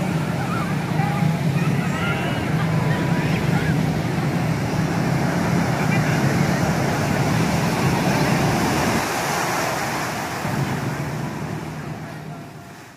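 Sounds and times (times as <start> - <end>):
ocean surf breaking over rocks: 0.0 - 12.9.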